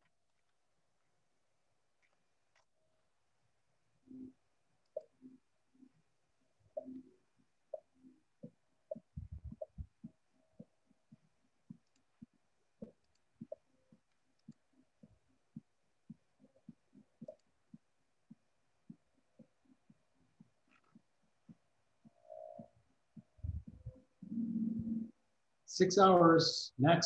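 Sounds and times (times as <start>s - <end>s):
quiz timer music with low thumps: 4.0s - 27.0s.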